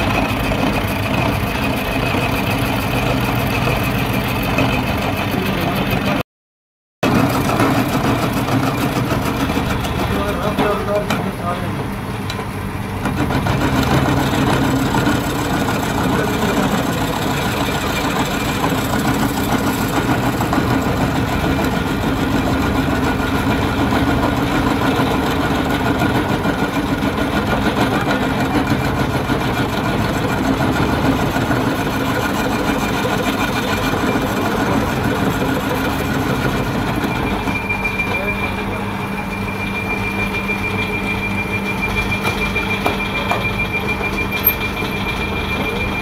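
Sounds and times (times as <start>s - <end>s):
metal lathe running: 0.0s - 6.2s, 7.0s - 46.0s.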